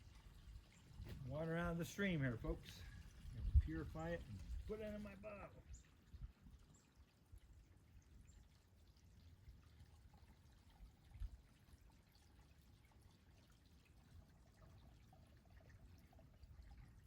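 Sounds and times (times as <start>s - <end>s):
stream water trickling: 0.0s - 17.0s.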